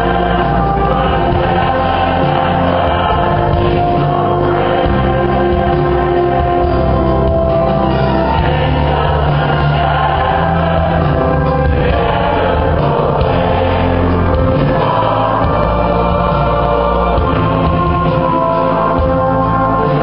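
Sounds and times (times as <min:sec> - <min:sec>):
church choir singing: 0:00.0 - 0:20.0.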